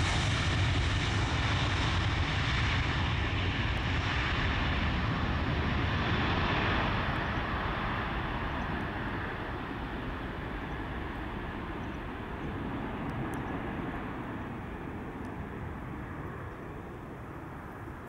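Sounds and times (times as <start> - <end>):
jet engines at takeoff thrust: 0.0 - 18.0.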